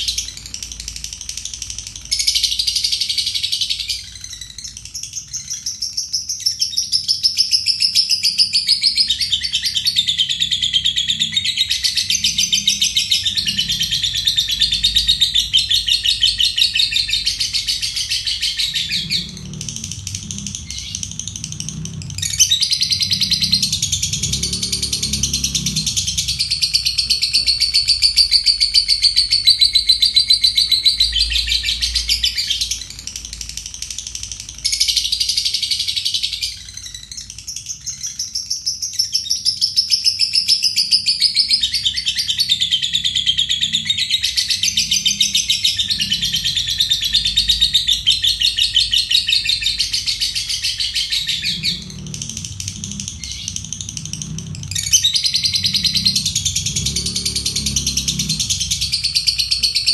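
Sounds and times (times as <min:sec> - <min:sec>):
lovebird chattering trill: 0:00.0 - 0:59.9.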